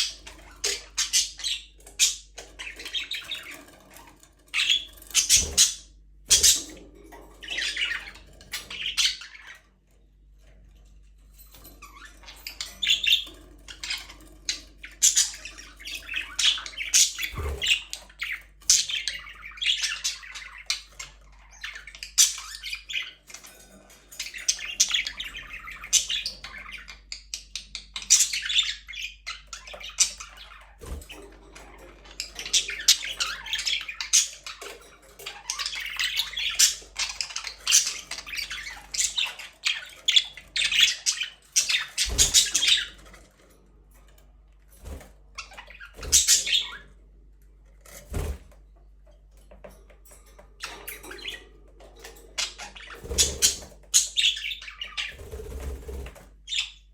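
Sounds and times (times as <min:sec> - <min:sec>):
budgerigars chirping: 0:00.0 - 0:09.6, 0:11.8 - 0:43.1, 0:44.9 - 0:46.9, 0:50.6 - 0:56.9.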